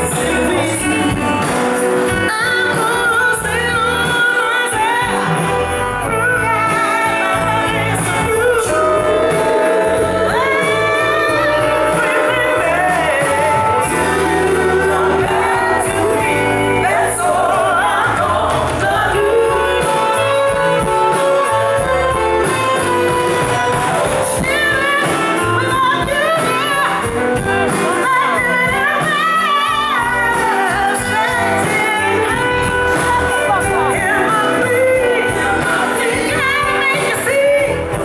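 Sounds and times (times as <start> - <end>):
live band with electric guitars: 0.0 - 38.0
woman singing: 0.0 - 38.0.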